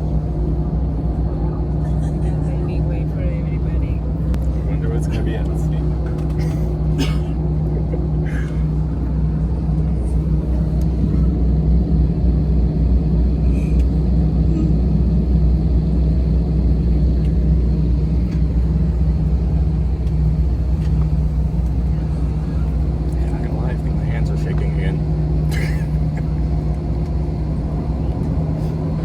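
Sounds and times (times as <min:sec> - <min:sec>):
jet engine cabin drone: 0:00.0 - 0:29.0.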